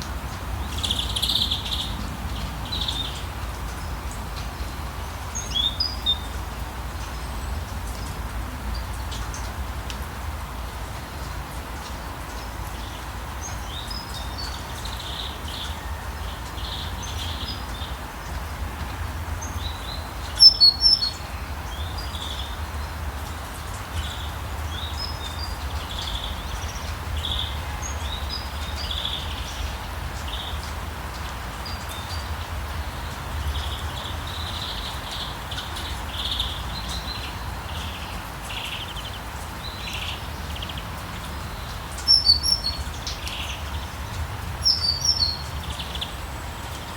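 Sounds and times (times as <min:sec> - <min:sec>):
rain on a street: 0:00.0 - 0:46.9
songbirds chirping: 0:00.0 - 0:46.9.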